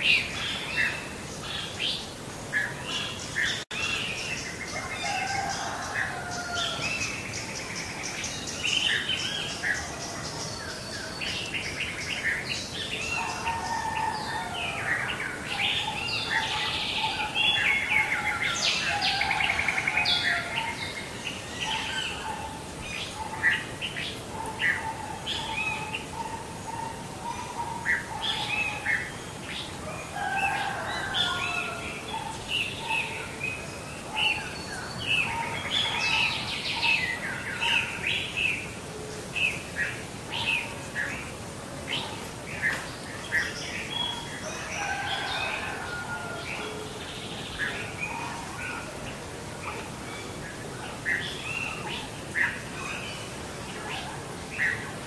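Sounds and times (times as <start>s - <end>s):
birds chirping chorus: 0.0s - 55.0s.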